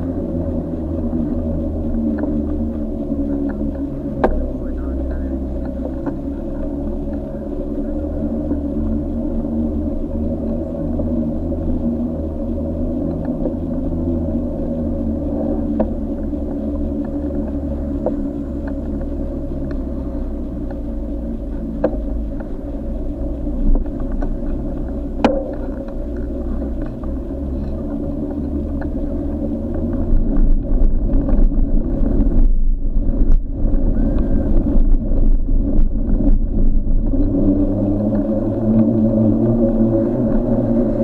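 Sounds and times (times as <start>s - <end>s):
faint steady tones: 0.0s - 41.0s
wind rumble on camera: 0.0s - 41.0s.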